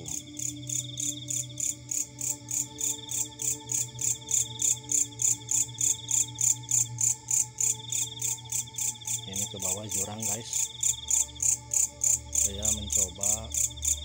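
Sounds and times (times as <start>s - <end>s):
insect trilling at lower pitch: 0.0s - 14.0s
insects chirping rhythmically: 0.0s - 14.0s.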